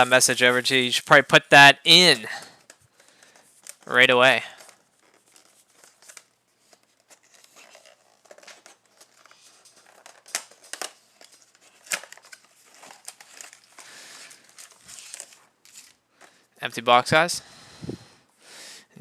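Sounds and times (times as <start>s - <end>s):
foil wrappers crinkling: 0.0s - 16.4s.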